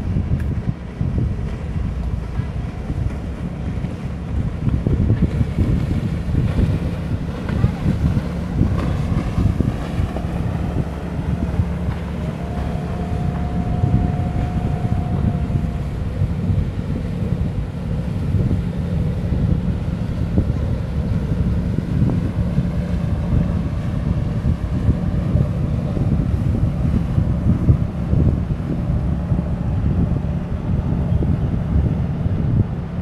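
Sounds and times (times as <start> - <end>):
boat engine passing: 0.0 - 33.0
wind buffeting microphone: 0.0 - 33.0.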